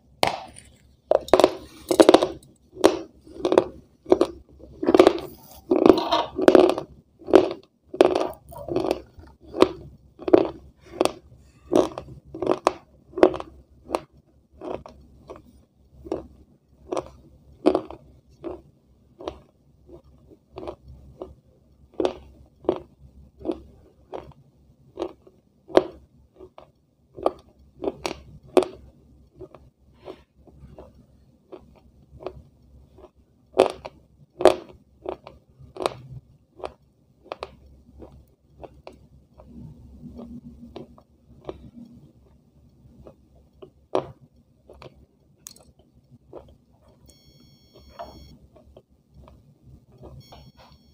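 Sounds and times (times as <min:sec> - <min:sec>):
person chewing crunchy food: 0:00.2 - 0:50.9.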